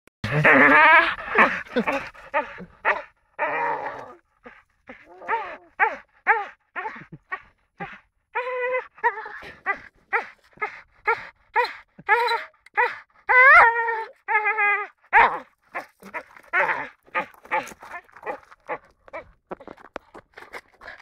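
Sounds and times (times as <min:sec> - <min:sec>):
dog crying: 0:00.4 - 0:04.2, 0:04.9 - 0:07.4, 0:08.4 - 0:19.2.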